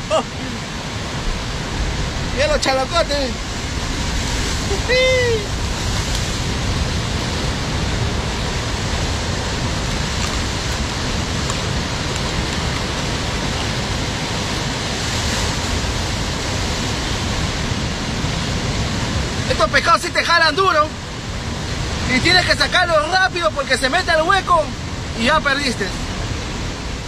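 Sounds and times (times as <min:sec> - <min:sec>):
surf breaking on rocks: 0:00.4 - 0:27.0.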